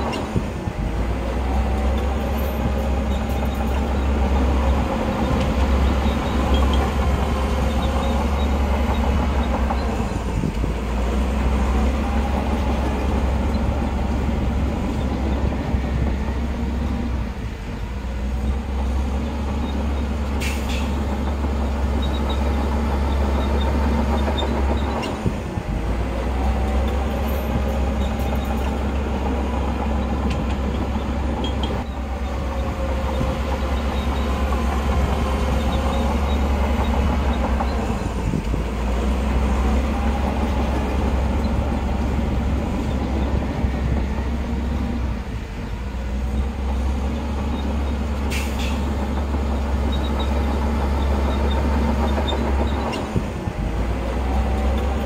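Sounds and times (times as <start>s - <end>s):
heavy diesel engine drone: 0.0s - 55.0s.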